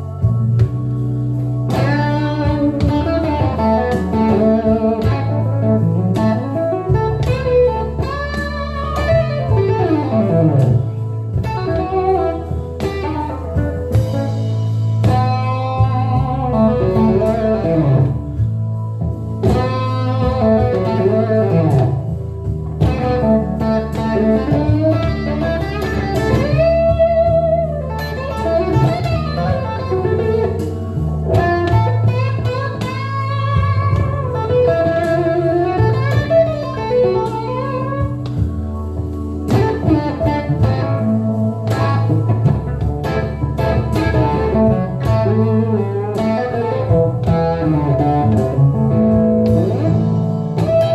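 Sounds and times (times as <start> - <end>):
electric guitar blues lead: 0.0 - 50.9
low bass notes: 0.0 - 50.9.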